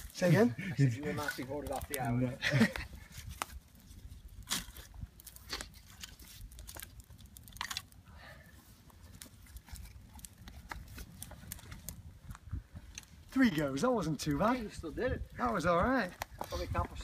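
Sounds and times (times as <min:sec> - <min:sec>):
twigs crackling and snapping: 0:00.0 - 0:17.0.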